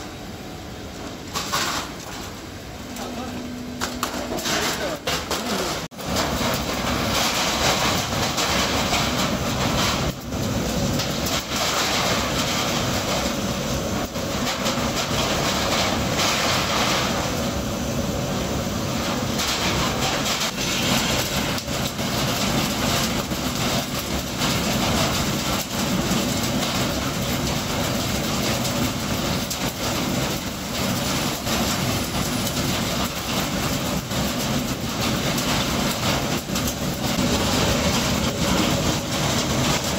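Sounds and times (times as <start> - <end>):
circuit boards rattling in rotating drum: 3.0 - 39.9.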